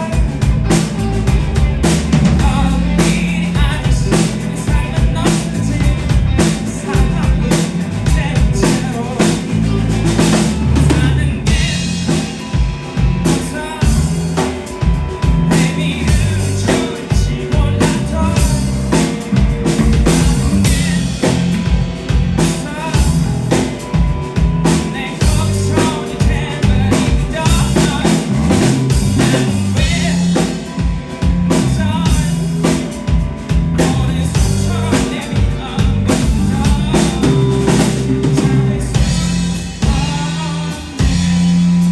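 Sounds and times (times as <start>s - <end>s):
person singing: 0.0s - 41.9s
rock band playing: 0.0s - 41.9s.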